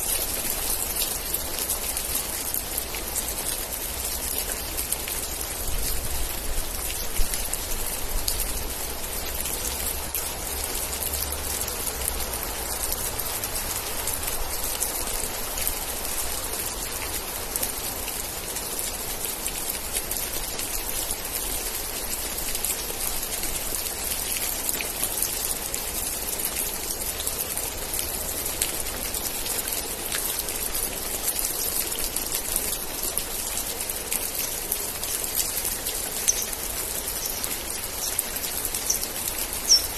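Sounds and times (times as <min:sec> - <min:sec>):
raindrops ticking: 0:00.0 - 0:39.9
steady rain: 0:00.0 - 0:39.9.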